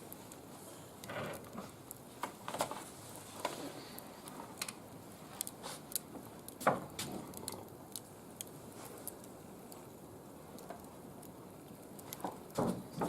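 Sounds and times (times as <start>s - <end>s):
wood fire crackling in a grill: 0.0s - 13.0s.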